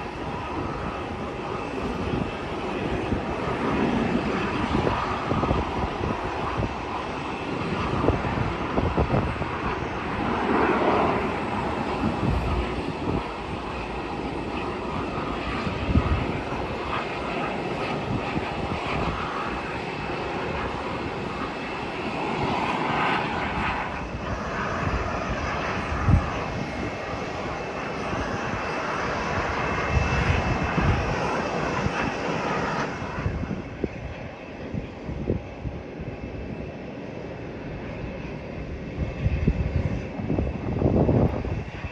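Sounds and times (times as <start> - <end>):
jet engines roaring: 0.0 - 41.9
wind buffeting microphone: 0.0 - 41.9.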